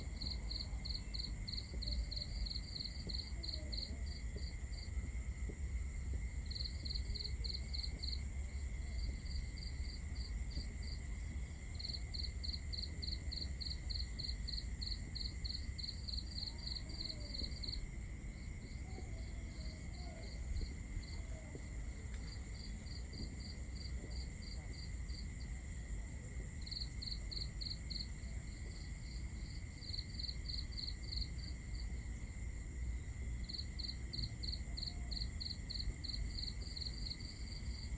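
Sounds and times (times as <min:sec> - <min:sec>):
cricket chirping: 0:00.0 - 0:37.9.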